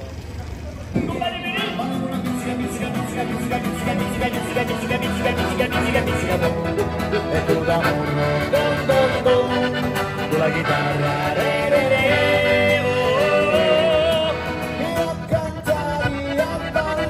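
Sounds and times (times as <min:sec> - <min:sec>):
strummed acoustic guitar: 0:00.9 - 0:17.0
accordion melody: 0:01.1 - 0:17.0.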